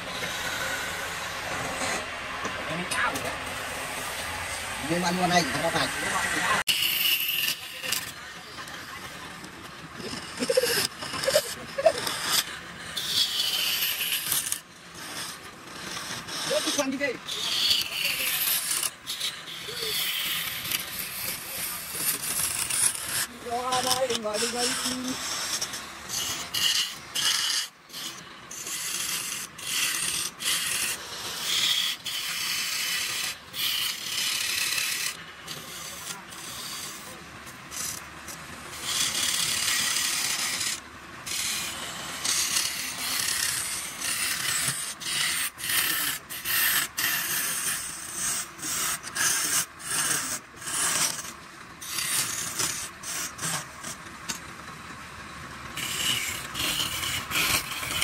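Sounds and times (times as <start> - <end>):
scraper cutting wood on lathe: 0.0 - 54.5, 55.7 - 58.0.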